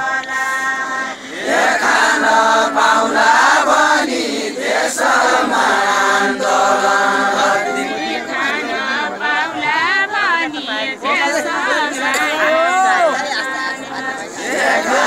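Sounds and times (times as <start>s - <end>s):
group of voices singing: 0.0s - 10.1s, 11.0s - 15.0s.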